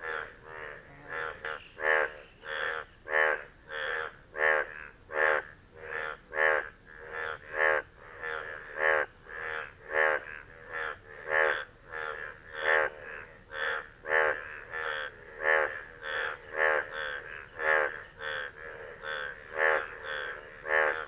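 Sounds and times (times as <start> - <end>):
frog croaking: 0.0 - 21.0.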